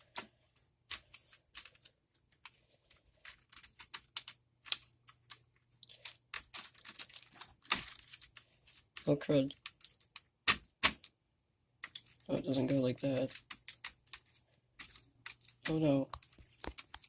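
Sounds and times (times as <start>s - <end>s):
plastic crinkling: 0.9s - 10.3s, 11.8s - 17.0s.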